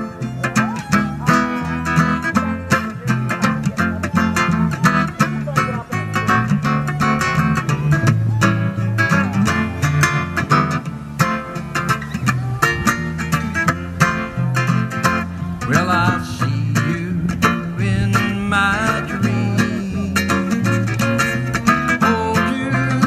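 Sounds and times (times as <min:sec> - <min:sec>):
quick plucked notes: 0:00.0 - 0:23.0
stepping bass line: 0:00.0 - 0:23.0.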